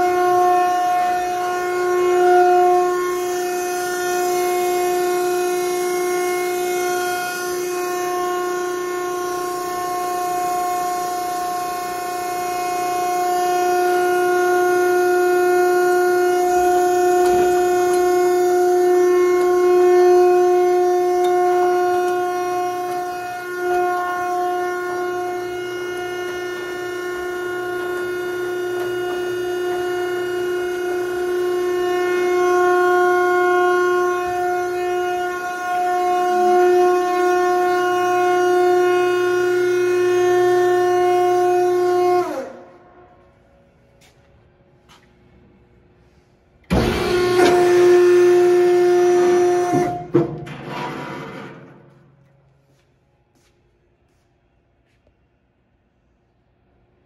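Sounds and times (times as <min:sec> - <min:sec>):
hydraulic power unit whining: 0:00.0 - 0:52.6.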